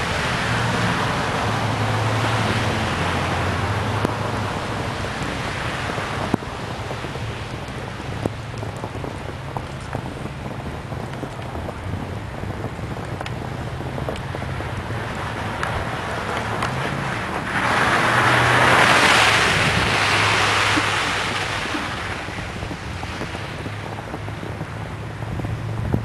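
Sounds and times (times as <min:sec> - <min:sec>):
tyres hissing through wet snow: 0:00.0 - 0:25.8
wind buffeting microphone: 0:00.0 - 0:26.0.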